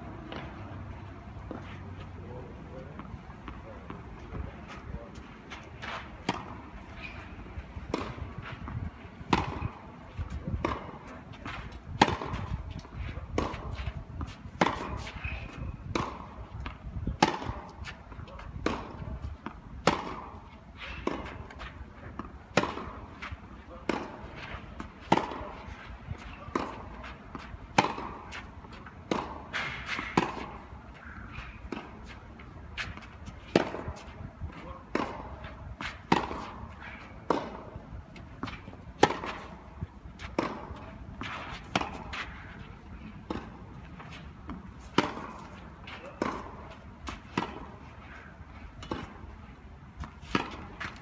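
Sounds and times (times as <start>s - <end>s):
tennis ball bouncing: 3.0s - 48.2s, 48.8s - 49.4s, 50.0s - 51.0s
tennis ball struck by rackets: 5.1s - 49.4s, 50.0s - 51.0s.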